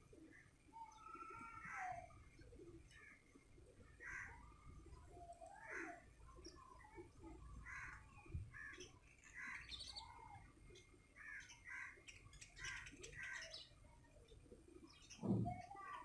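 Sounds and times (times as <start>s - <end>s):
faint bird calls: 0.2s - 14.1s.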